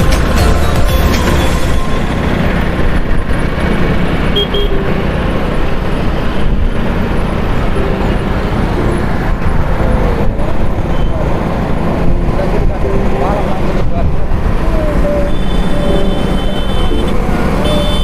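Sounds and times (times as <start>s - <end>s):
motorcycle road noise: 0.0s - 18.0s.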